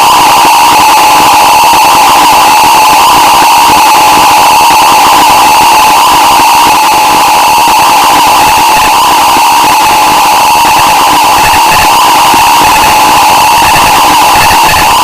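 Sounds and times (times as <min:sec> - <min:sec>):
distorted noise music: 0:00.0 - 0:15.0
steady shrill tone: 0:00.0 - 0:15.0.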